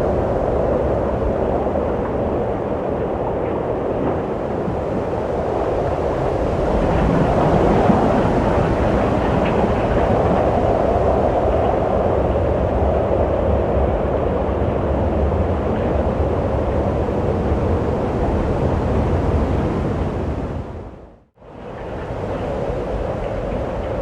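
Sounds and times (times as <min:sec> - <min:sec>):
strong wind blowing: 0:00.0 - 0:24.0.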